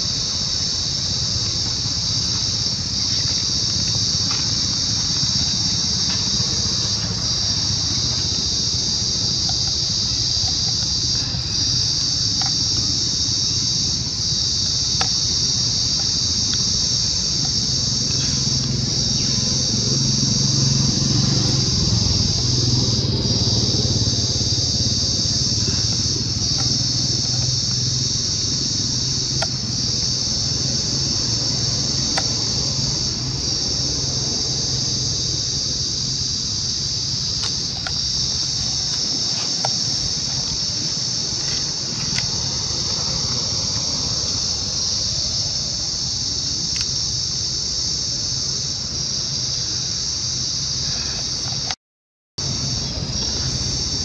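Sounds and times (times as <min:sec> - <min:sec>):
insect chorus chirring: 0:00.0 - 0:51.8, 0:52.4 - 0:54.0.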